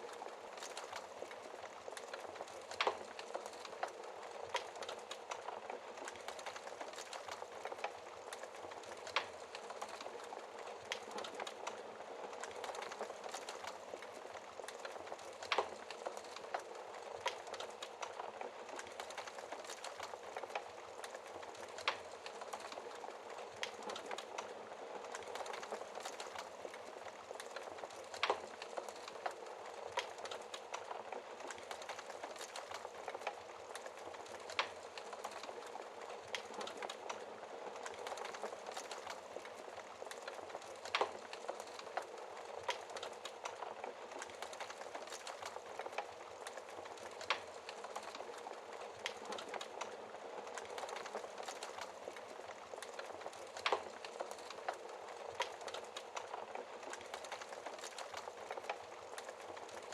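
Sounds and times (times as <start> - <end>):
wood fire crackling: 0.0 - 59.9
fire pops: 0.1 - 59.8.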